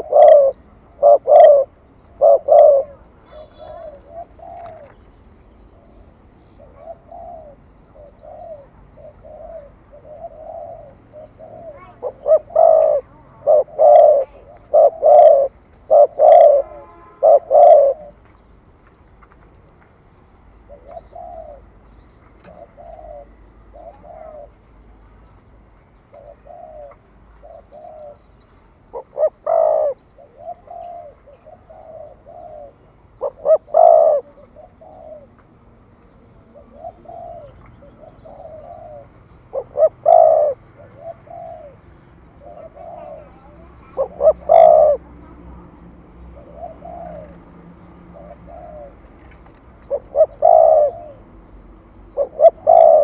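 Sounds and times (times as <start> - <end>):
dove cooing: 0.0 - 18.2, 20.7 - 24.6, 26.1 - 53.0.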